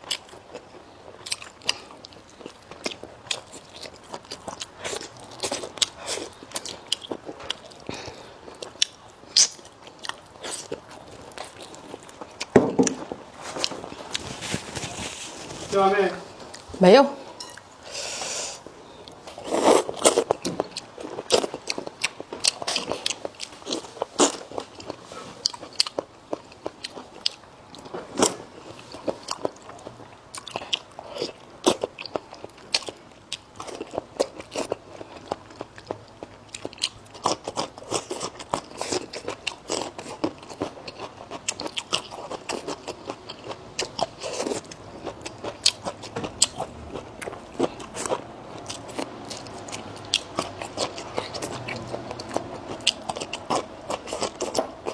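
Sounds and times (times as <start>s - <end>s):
person chewing crunchy food: 0.0s - 16.7s, 17.4s - 54.9s.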